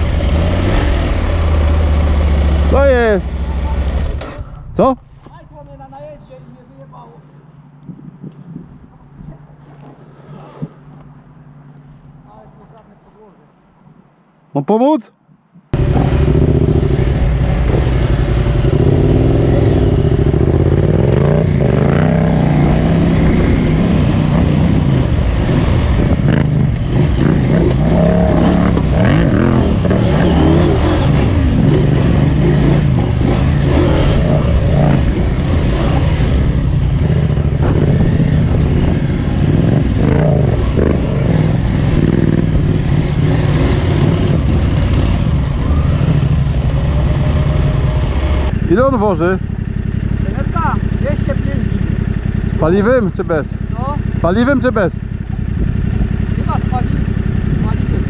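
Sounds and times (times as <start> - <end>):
motorcycle engine revving: 0.0 - 4.9, 15.7 - 58.0.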